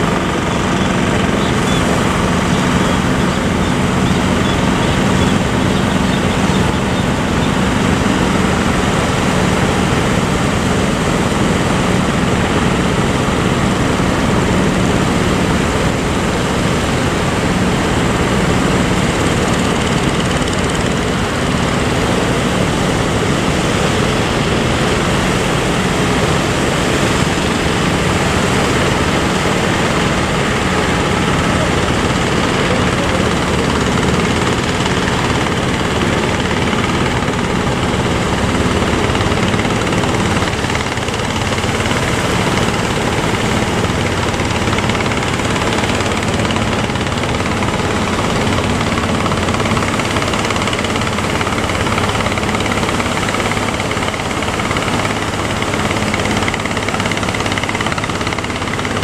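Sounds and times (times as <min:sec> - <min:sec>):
engine humming: 0:00.0 - 0:59.0
sea: 0:00.0 - 0:59.0.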